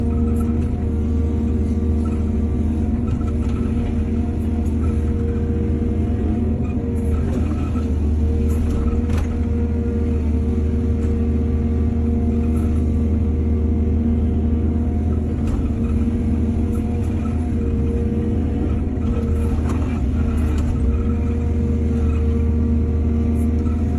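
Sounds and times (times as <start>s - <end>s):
diesel engine rumbling: 0.0s - 23.9s.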